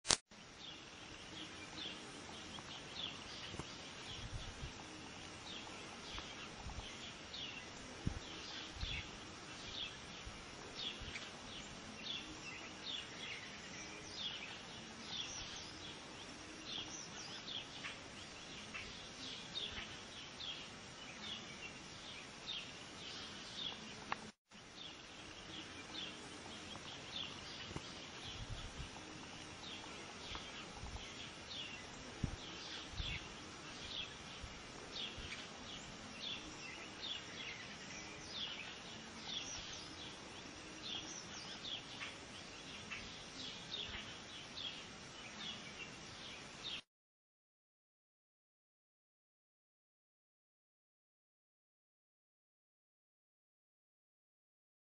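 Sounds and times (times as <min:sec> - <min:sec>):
steady outdoor hiss: 0:00.0 - 0:46.8
small birds chirping: 0:00.3 - 0:46.8.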